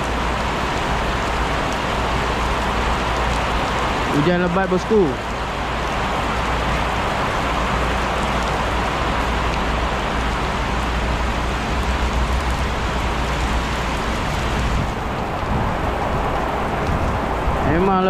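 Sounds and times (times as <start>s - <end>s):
heavy rain pouring: 0.0s - 18.0s
low rumble of wind: 0.0s - 18.0s.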